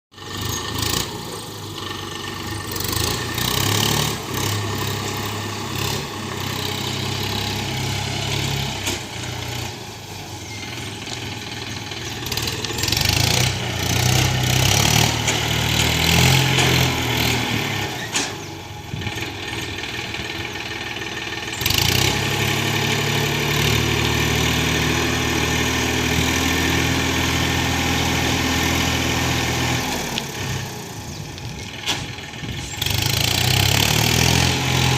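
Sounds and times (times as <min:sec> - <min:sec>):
diesel tractor engine running: 0:00.1 - 0:34.9.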